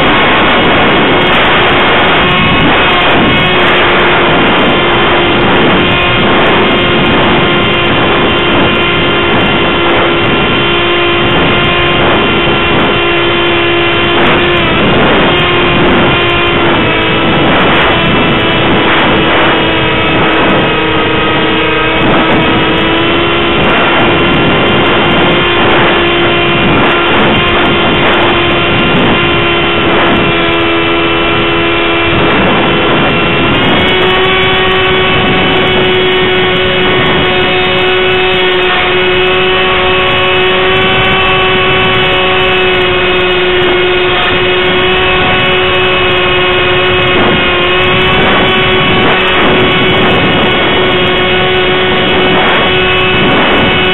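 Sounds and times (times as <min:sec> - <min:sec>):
electric motor and propeller whine: 0:00.0 - 0:53.9
rushing air: 0:00.0 - 0:53.9.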